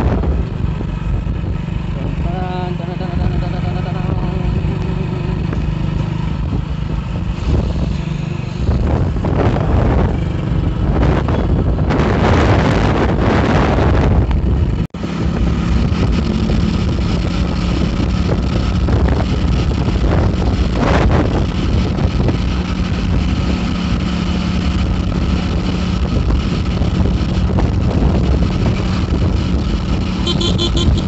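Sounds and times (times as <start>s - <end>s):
wind buffeting microphone: 0.0s - 2.2s, 4.2s - 31.0s
motorcycle engine running: 0.0s - 31.0s.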